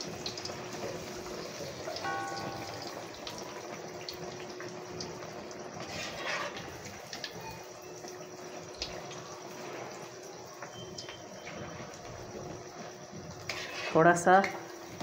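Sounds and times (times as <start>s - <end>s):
batter sizzling in hot oil: 0.0s - 15.0s.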